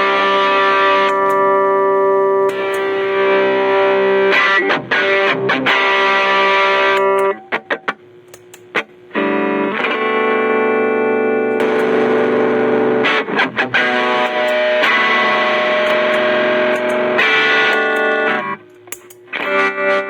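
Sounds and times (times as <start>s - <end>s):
overdriven electric guitar chords: 0.0s - 20.0s.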